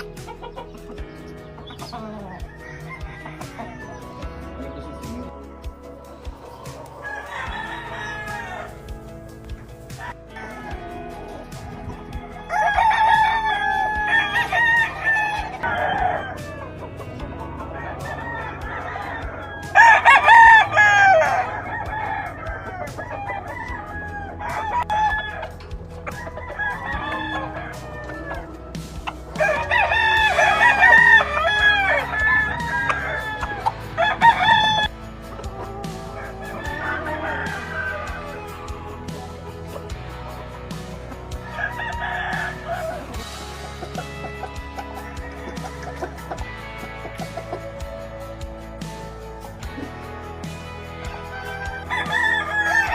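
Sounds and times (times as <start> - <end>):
chickens clucking: 0.0 - 52.9
roosters crowing: 0.0 - 52.9.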